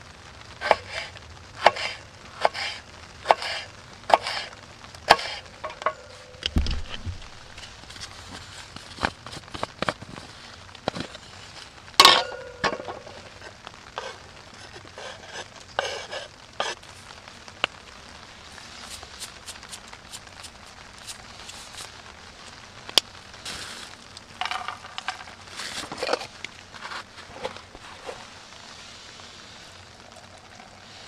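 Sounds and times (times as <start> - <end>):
plastic bag rustling: 6.1 - 31.0.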